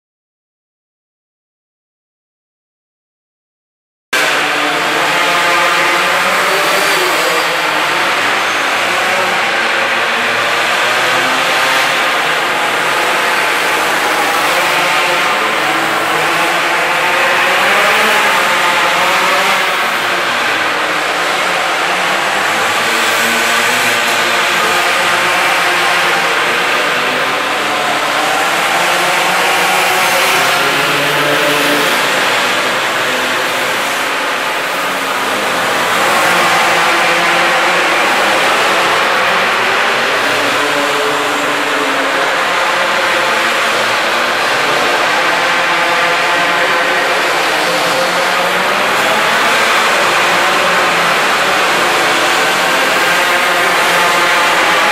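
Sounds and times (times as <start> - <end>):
small engine revving high: 4.2 - 54.9.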